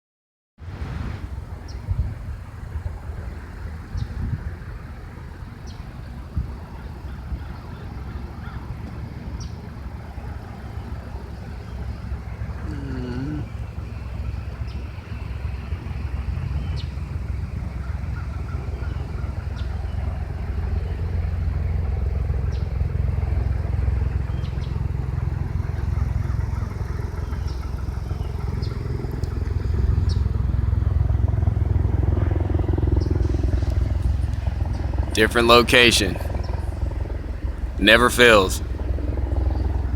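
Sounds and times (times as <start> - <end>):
aircraft engine rumble overhead: 0.6 - 39.9.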